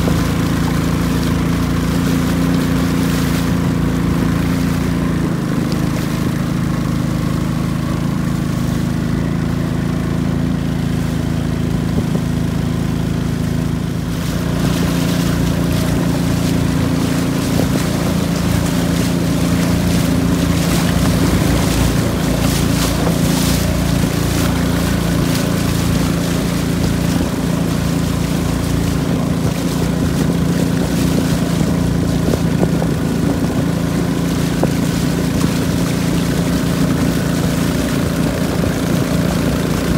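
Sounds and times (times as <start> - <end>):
boat engine droning: 0.0 - 39.9
river water rushing along hull: 0.0 - 39.9.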